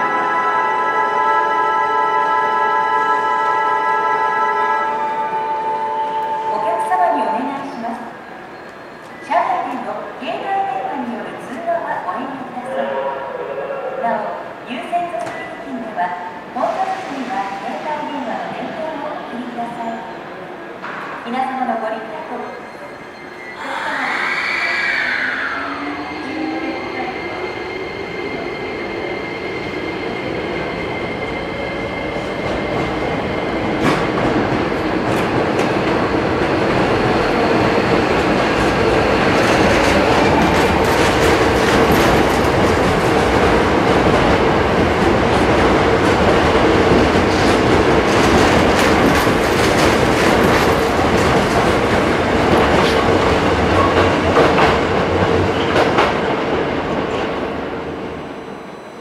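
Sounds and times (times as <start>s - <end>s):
electric train running past: 0.0s - 19.4s, 22.7s - 59.0s.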